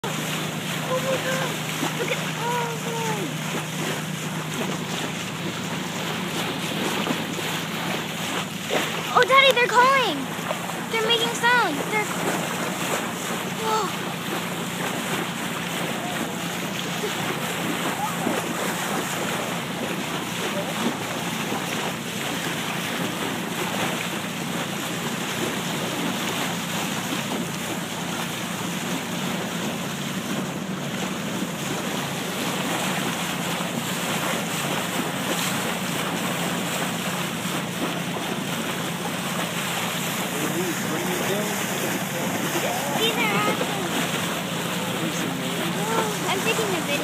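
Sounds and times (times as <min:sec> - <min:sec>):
boat engine hum: 0:00.0 - 0:47.0
bow wave rushing and splashing: 0:00.0 - 0:47.0.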